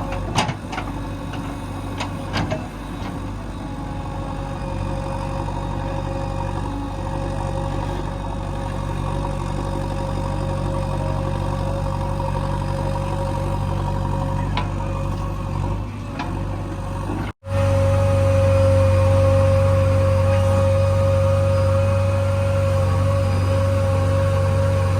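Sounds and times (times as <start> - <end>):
diesel engine running steadily: 0.0 - 24.9.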